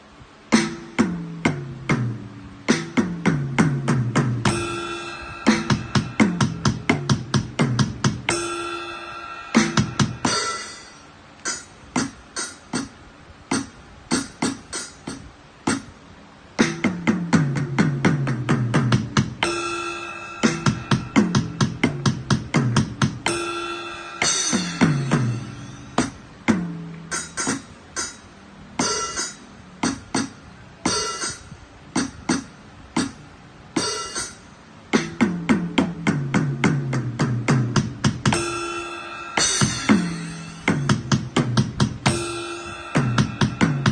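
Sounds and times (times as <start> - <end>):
electronic drum kit sounds: 0.0 - 43.9.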